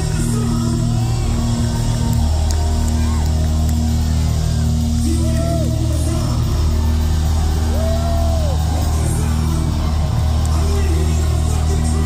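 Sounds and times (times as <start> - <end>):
heavy rock band playing: 0.0 - 12.0
low bass notes: 0.0 - 12.0.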